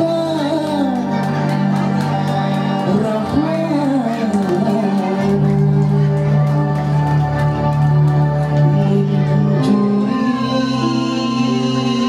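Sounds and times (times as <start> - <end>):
man singing into a microphone: 0.0 - 1.6, 2.8 - 7.4, 8.5 - 12.0
electric keyboard accompaniment: 0.0 - 12.0.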